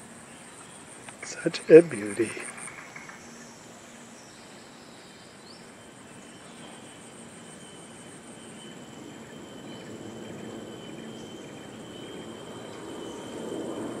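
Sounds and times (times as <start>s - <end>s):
insect high whine: 0.0s - 14.0s
insects trilling: 0.0s - 14.0s.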